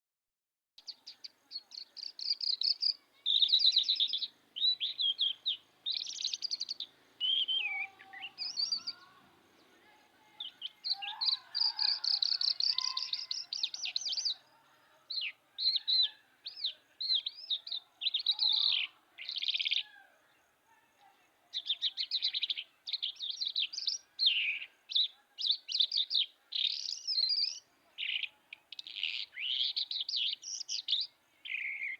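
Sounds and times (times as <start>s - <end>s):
songbird chirping and trilling: 0.8s - 31.9s.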